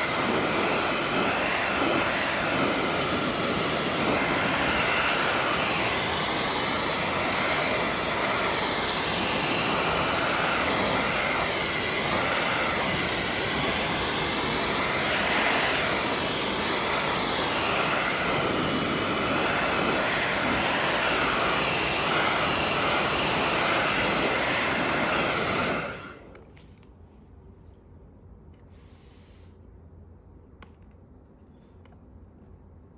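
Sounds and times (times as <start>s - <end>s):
hair dryer blowing: 0.0s - 26.4s.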